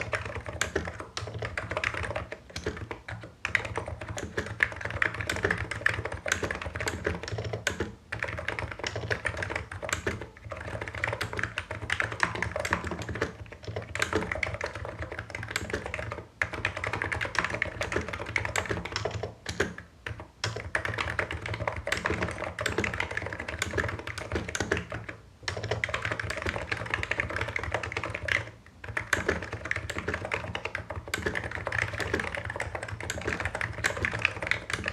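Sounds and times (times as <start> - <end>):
keyboard typing: 0.0 - 34.9.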